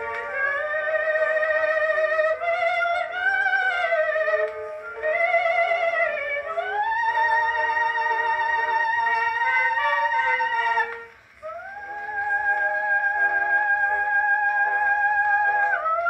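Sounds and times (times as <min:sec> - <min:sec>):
phonograph playing operatic soprano: 0:00.0 - 0:16.0.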